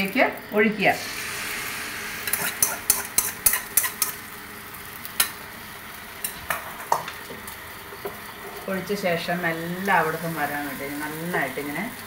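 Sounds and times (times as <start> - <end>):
egg batter sizzling in oil: 0.0 - 12.0.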